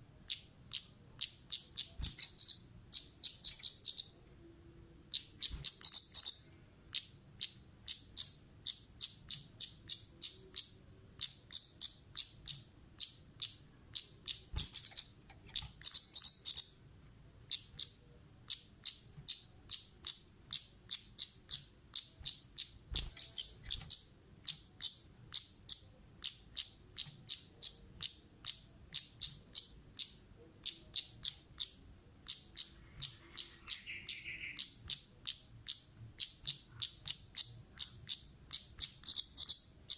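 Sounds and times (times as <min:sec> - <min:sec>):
bird chip calls: 0:00.3 - 0:04.2, 0:05.1 - 0:16.8, 0:17.5 - 0:39.9.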